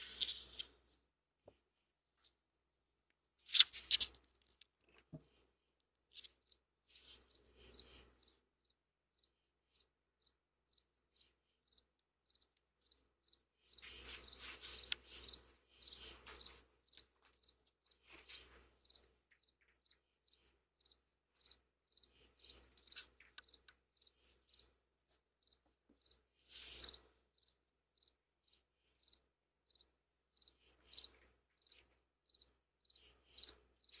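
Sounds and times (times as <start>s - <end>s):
faint cricket chirping: 6.1s - 34.0s.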